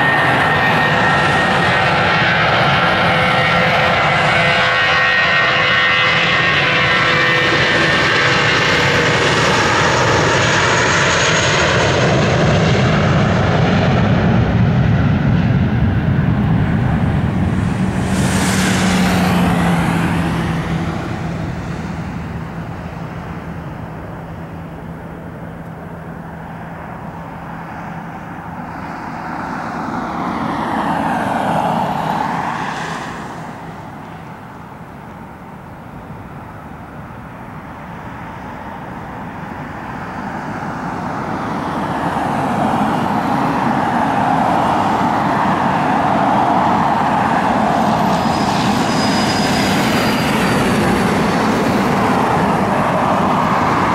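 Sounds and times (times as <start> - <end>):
jet engines at takeoff: 0.0 - 53.9.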